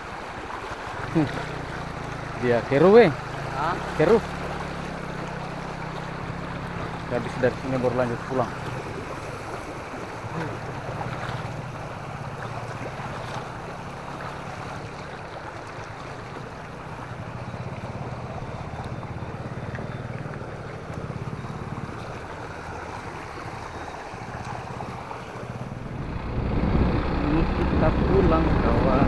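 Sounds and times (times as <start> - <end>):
motor scooter engine idling: 1.0 - 29.0.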